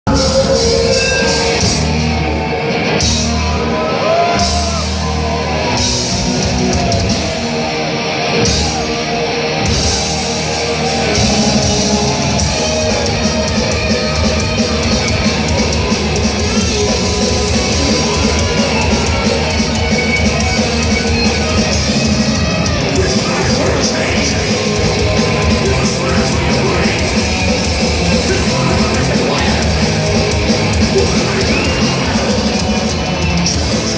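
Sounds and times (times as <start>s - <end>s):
heavy metal band playing: 0.0s - 33.9s.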